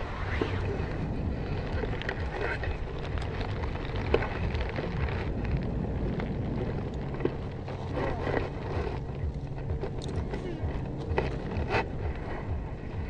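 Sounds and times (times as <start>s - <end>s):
fabric crackling and rustling: 0.0s - 13.0s
faint low hum: 0.0s - 13.0s
wind buffeting microphone: 0.0s - 13.0s.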